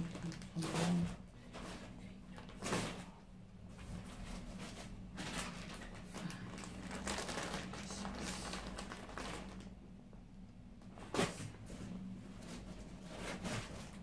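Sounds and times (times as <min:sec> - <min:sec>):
plastic bags rustling: 0:00.0 - 0:09.9, 0:10.8 - 0:14.0.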